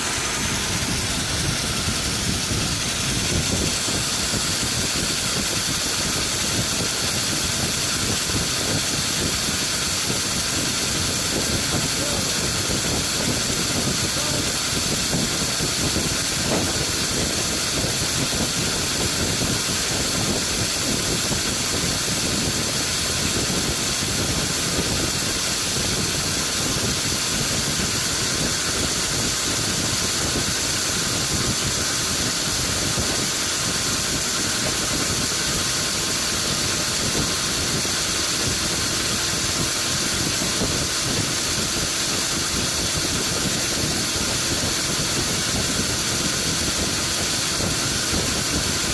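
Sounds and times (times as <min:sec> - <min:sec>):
loud even hiss: 0:00.0 - 0:48.9
sawmill machinery drone: 0:00.0 - 0:48.9.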